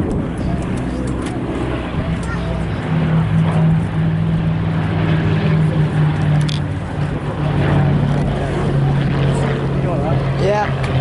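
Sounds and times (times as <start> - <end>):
piston aircraft engines droning: 0.0 - 11.0.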